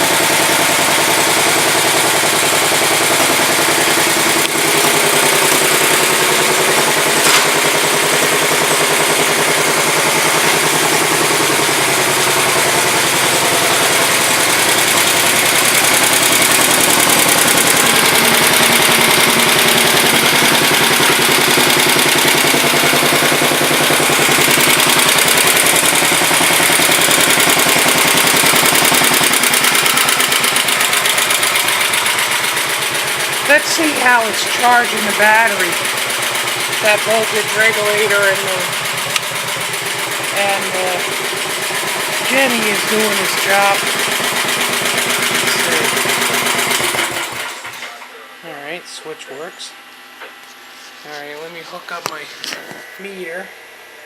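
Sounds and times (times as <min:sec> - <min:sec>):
garden tractor engine running: 0:00.0 - 0:53.8.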